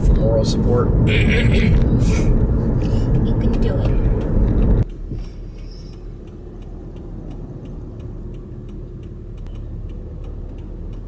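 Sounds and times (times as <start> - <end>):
car engine and road hum: 0.0 - 11.0
turn signal clicking: 1.7 - 11.0.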